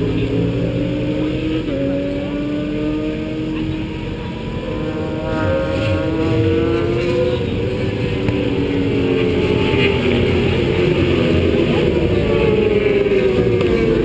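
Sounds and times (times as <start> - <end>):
car engine under load: 0.0 - 14.0
wind and road rush: 0.0 - 14.0.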